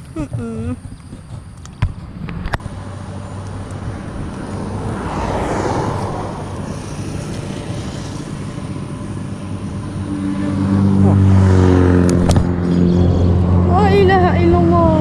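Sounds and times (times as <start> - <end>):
steady low engine hum: 0.0 - 15.0
vehicle engine approaching: 0.0 - 15.0
vehicle passing: 0.8 - 15.0.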